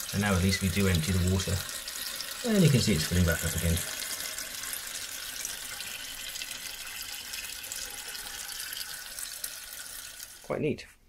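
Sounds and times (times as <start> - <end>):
toilet cistern refilling: 0.0 - 10.5.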